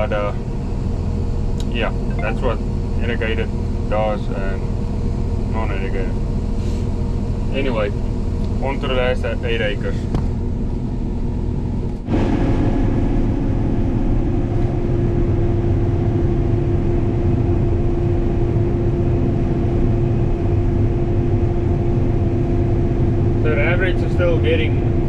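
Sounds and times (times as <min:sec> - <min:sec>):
combine harvester running: 0:02.2 - 0:25.0.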